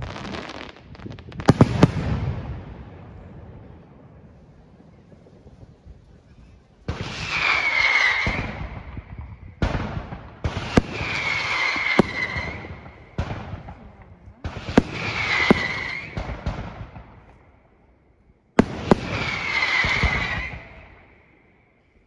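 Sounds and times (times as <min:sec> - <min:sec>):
fireworks bursting: 0:00.0 - 0:17.6, 0:18.6 - 0:21.4.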